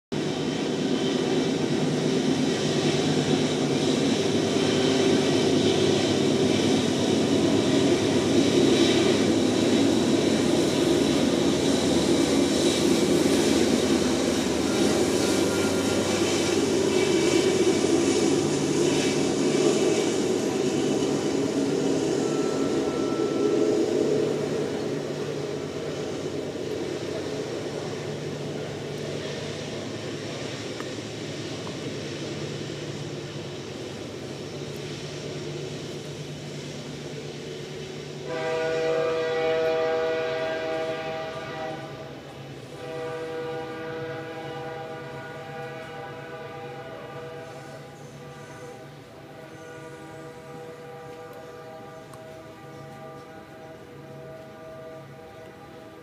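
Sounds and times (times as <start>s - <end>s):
diesel locomotive engines: 0.1s - 56.0s
rolling train wheels: 0.1s - 56.0s.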